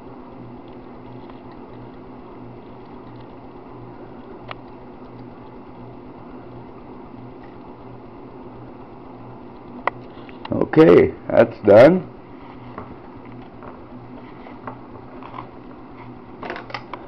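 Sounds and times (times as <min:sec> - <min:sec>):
soldering gun buzzing: 0:00.0 - 0:17.0.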